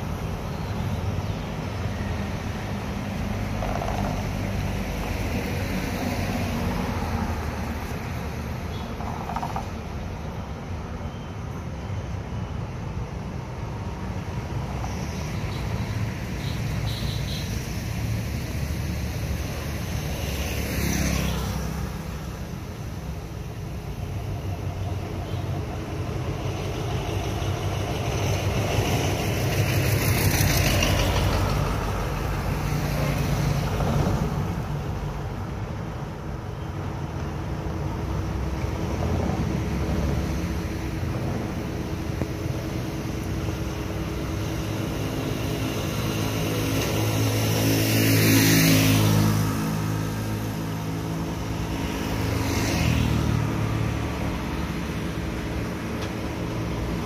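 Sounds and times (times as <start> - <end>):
motorbikes passing: 0.0 - 10.5, 14.5 - 57.0
cars passing: 0.0 - 57.0
low traffic rumble: 0.0 - 57.0.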